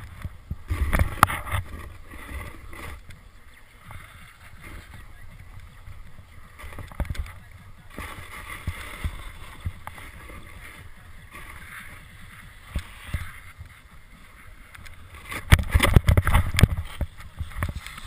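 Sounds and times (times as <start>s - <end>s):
snowboard sliding over snow: 0.0s - 18.0s
wind on microphone: 0.0s - 18.0s.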